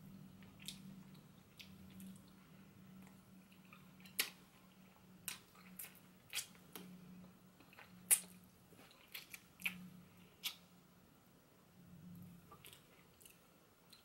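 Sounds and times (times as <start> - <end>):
soft chewing: 0.1 - 10.7, 12.0 - 14.0.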